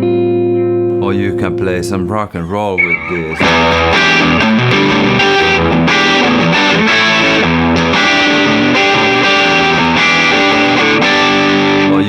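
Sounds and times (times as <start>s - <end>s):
electric guitar rock riff: 0.0s - 1.9s, 2.8s - 12.0s.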